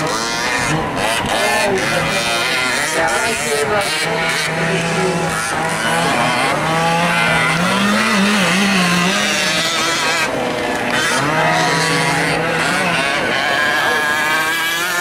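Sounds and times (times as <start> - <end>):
small two-stroke engines revving: 0.0 - 15.0.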